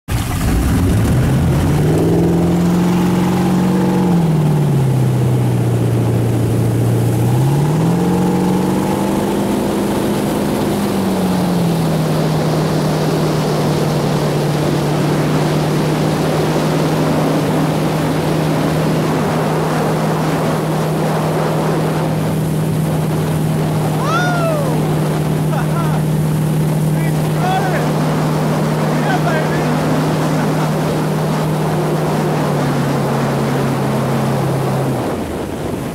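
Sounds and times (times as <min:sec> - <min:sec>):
boat engine: 0:00.1 - 0:35.9
wind: 0:00.1 - 0:35.9.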